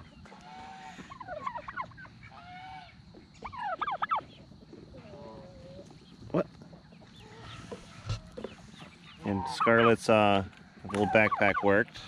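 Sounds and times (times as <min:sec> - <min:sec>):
turkeys gobbling: 0:00.0 - 0:12.0.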